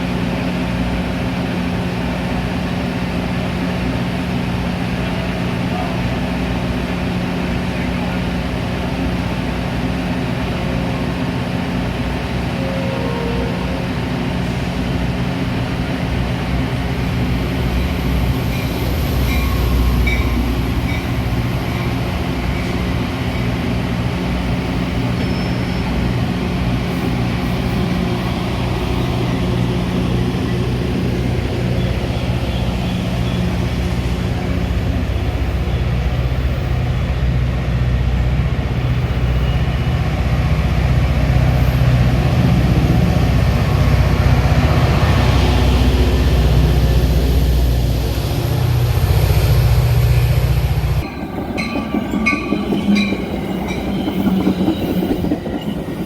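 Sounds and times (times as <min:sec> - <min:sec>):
commuter train rumbling: 0:00.0 - 0:56.0.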